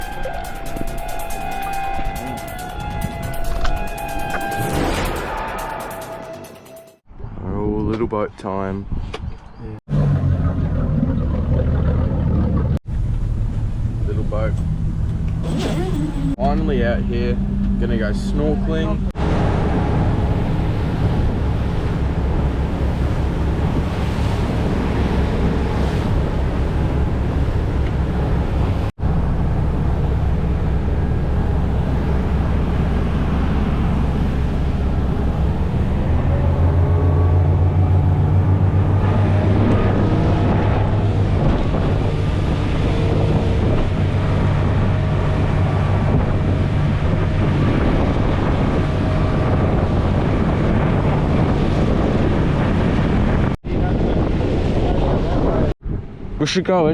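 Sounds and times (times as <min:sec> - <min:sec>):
water rushing past hull: 0:00.0 - 0:06.6, 0:09.9 - 0:56.8
motorboat engine running: 0:09.9 - 0:56.4
wind buffeting microphone: 0:10.4 - 0:56.9.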